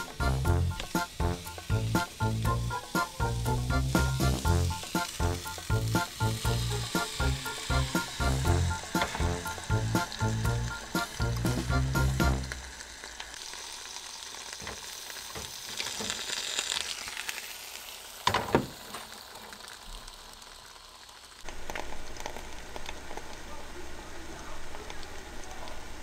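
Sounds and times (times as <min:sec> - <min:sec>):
batter sizzling in a pan: 0:00.0 - 0:26.0.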